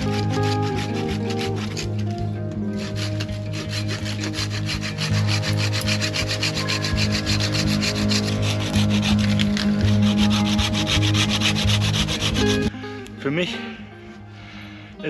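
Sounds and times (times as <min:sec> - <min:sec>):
hand saw cutting wood: 0:00.0 - 0:12.7
background music: 0:00.0 - 0:15.0.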